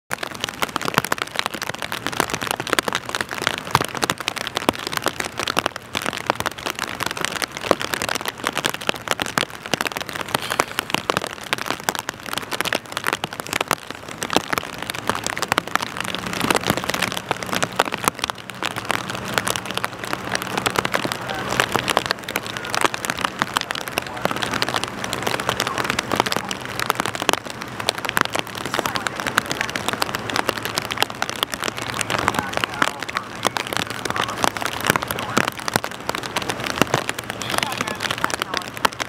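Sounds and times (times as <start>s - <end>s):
rain pattering: 0.1s - 39.0s.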